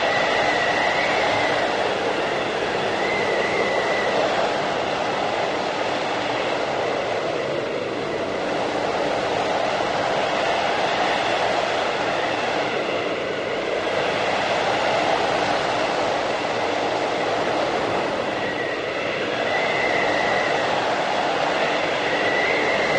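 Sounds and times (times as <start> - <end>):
blizzard wind rushing: 0.0 - 22.9
faint wavering wind whistle: 0.0 - 22.9.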